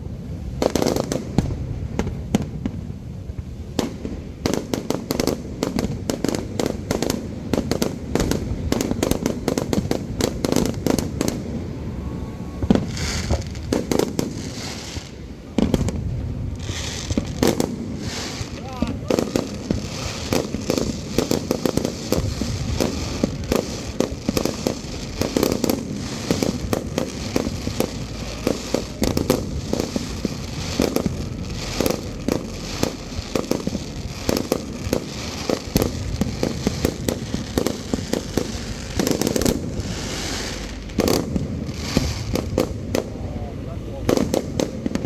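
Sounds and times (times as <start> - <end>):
fireworks bursts and bangs: 0.0 - 45.0.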